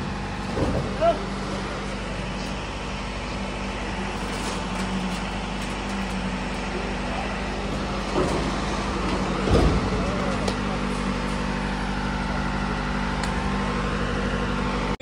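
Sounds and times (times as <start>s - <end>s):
drone of motor vehicles: 0.0s - 15.0s.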